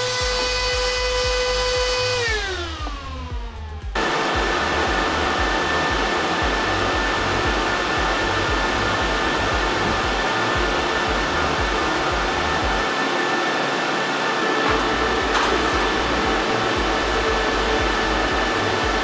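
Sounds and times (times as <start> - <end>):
cooling fans rushing: 0.0 - 19.0
high whine: 0.0 - 19.0.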